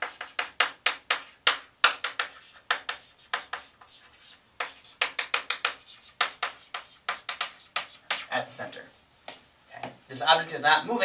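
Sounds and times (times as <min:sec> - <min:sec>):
chalk writing on blackboard: 0:00.0 - 0:09.4.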